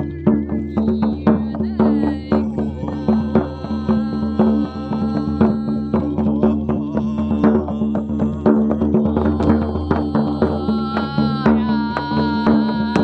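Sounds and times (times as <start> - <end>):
droning tone: 0.0 - 13.0
drum beating steady rhythm: 0.0 - 13.0.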